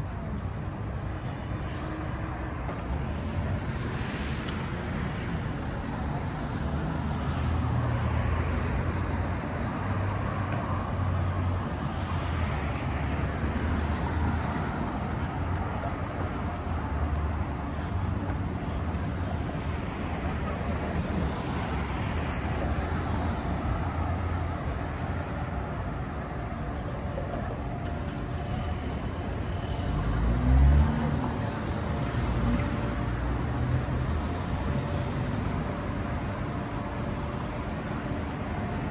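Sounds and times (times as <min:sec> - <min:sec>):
low traffic rumble: 0:00.0 - 0:38.9
passing vehicles: 0:00.0 - 0:38.9.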